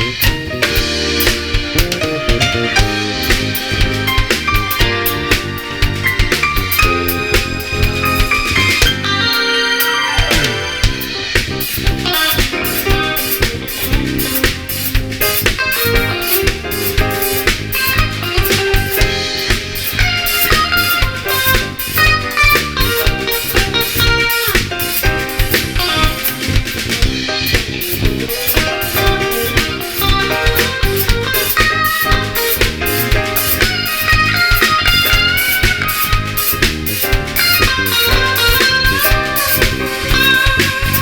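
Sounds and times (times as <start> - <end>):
drum kit beat: 0.0 - 41.0
guitar: 0.0 - 41.0
keyboard: 0.0 - 41.0.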